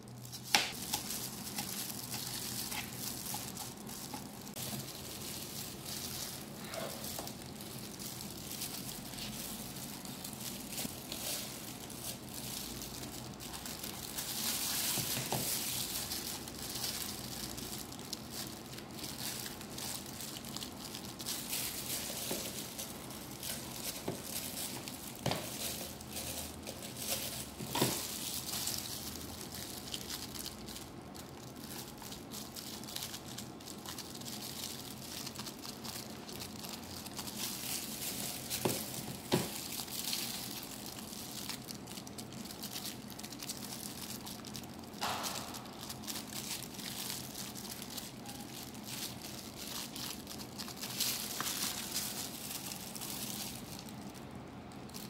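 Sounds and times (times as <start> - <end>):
plastic gloves crinkling: 0.0 - 55.0.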